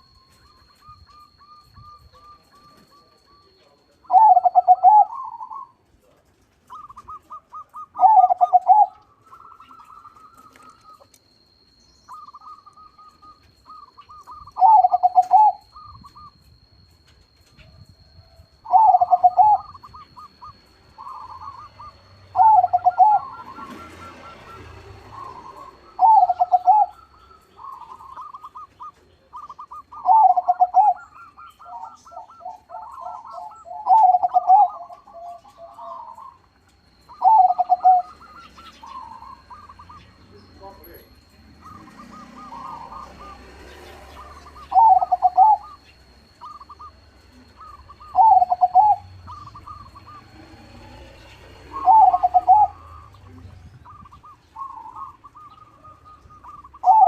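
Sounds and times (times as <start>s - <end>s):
dove cooing: 0.0s - 57.0s
soft trilled coos: 0.0s - 57.0s.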